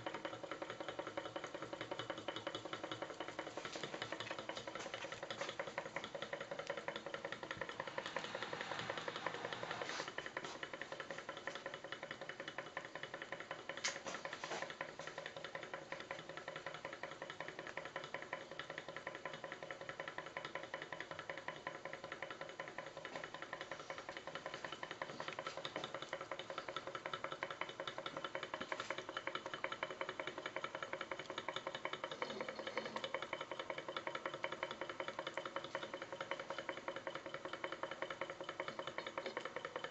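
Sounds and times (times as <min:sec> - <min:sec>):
model engine ticking and clatter: 0:00.0 - 0:39.9.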